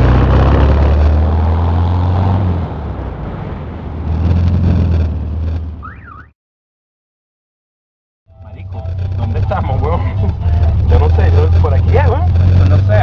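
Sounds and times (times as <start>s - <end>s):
car engine drone: 0.0s - 6.3s, 8.3s - 13.0s
road noise: 0.0s - 6.3s, 8.3s - 13.0s.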